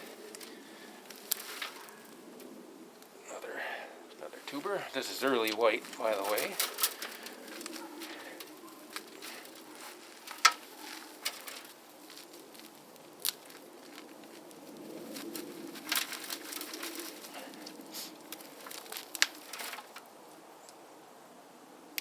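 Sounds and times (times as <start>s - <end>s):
roots snapping: 0.0s - 3.3s, 4.2s - 20.2s
roots and soil crackling: 0.0s - 20.8s.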